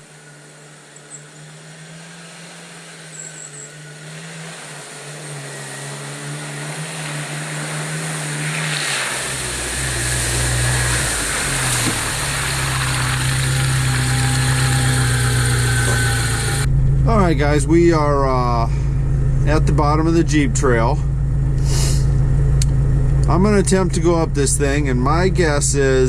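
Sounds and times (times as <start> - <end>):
deep engine rumble: 0.0 - 26.0
engine running hum: 0.0 - 26.0.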